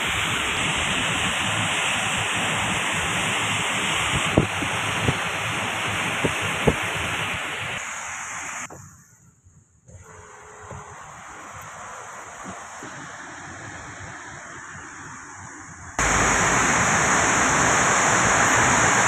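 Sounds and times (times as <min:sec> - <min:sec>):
rain and tyres on wet road: 0:00.0 - 0:08.7, 0:10.1 - 0:15.0, 0:16.0 - 0:19.0.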